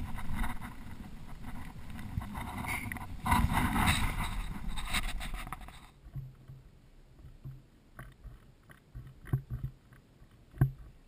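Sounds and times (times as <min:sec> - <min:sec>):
rushing wind and water: 0:00.0 - 0:11.0.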